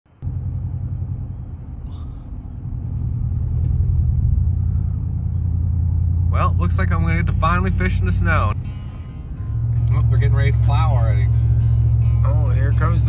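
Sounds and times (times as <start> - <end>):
car driving on road: 0.1 - 13.0.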